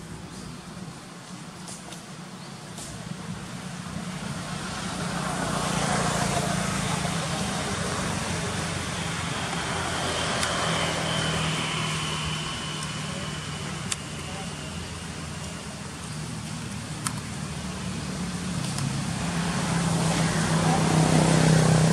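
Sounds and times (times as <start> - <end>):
traffic engine and tyre noise: 0.0 - 21.9.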